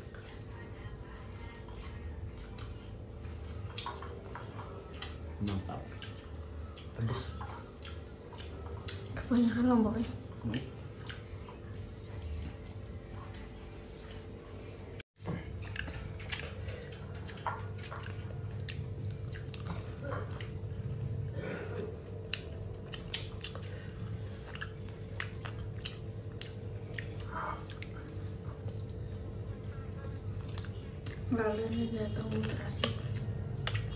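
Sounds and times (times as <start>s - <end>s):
people chewing with mouth clicks: 0.0s - 33.9s
steady low hum: 0.0s - 33.9s.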